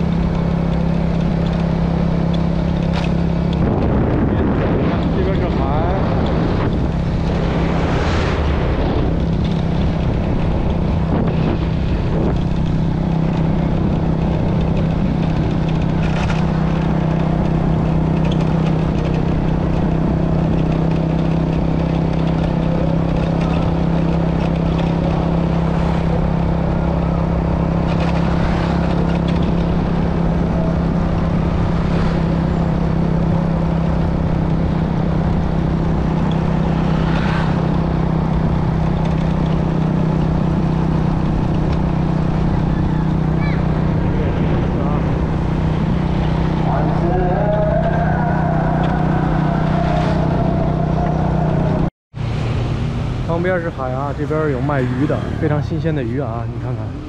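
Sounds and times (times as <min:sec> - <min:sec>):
motorcycle engine humming: 0:00.0 - 0:57.0
wind and road noise: 0:00.0 - 0:57.0.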